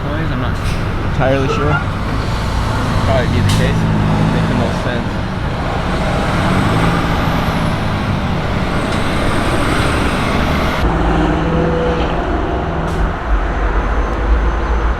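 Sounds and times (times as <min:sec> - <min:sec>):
deep rumble: 0:00.0 - 0:14.9
road traffic noise: 0:00.0 - 0:14.9.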